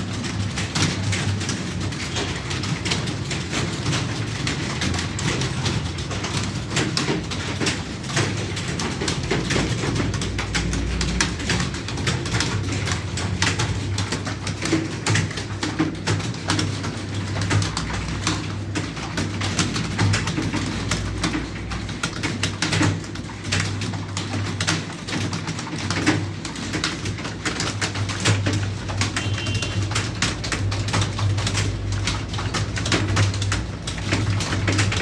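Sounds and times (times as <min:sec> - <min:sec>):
fast keyboard typing: 0:00.0 - 0:35.0.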